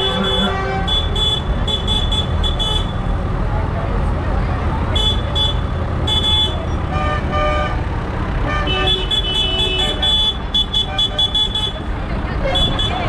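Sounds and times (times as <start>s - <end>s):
vehicle horns tooting: 0.0s - 3.1s, 4.9s - 13.0s
tractor engines rumbling: 0.0s - 13.0s.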